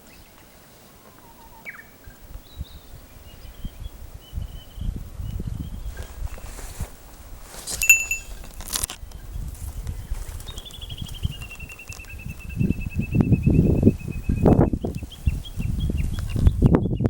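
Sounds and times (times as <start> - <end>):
birdsong: 0.0 - 6.2, 9.2 - 17.0.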